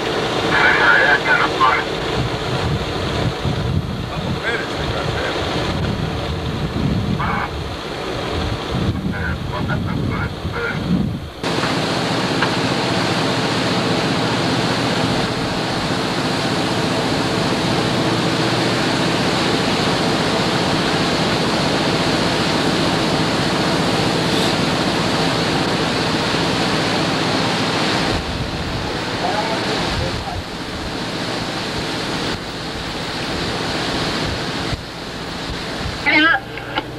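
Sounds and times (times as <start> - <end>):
boat engine running: 0.0 - 36.9
wind and water rushing: 0.0 - 36.9.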